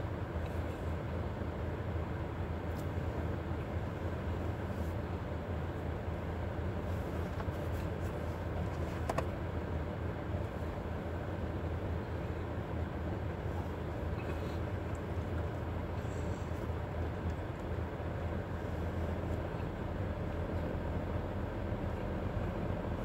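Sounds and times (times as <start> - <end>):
low rumble inside car cabin: 0.0 - 23.0.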